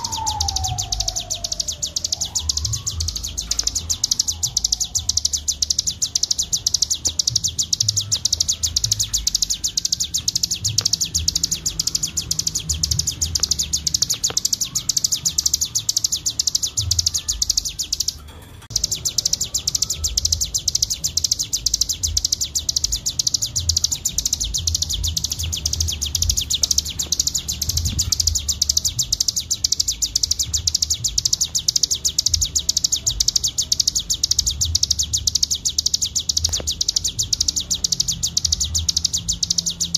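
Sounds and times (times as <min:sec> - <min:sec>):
songbird rapid trill: 0:00.0 - 0:39.9.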